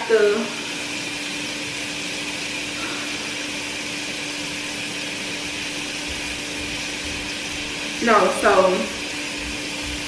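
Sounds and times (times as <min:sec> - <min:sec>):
fan running: 0:00.0 - 0:10.0.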